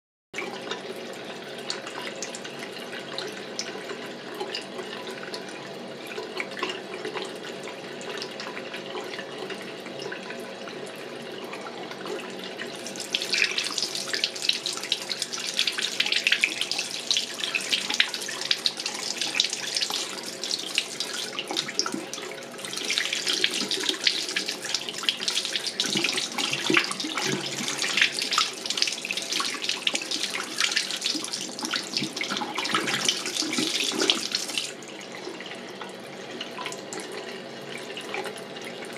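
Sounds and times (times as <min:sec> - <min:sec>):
faucet running into sink: 0:00.4 - 0:38.9.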